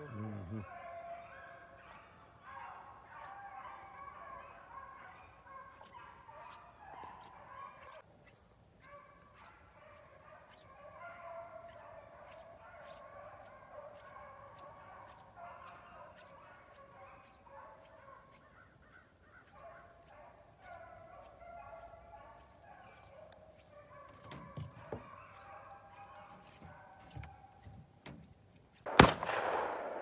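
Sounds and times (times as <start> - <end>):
hounds baying and yelping: 0.0 - 28.8.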